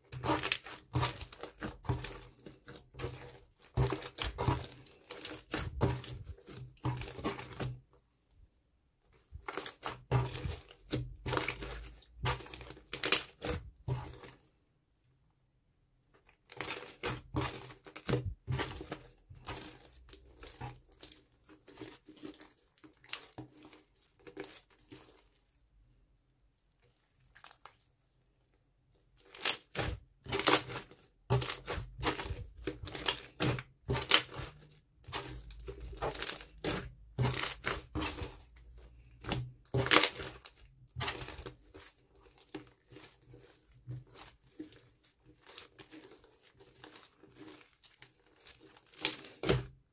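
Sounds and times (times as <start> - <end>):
slime kneaded by hand: 0.0 - 14.6, 16.0 - 25.8, 26.7 - 49.9.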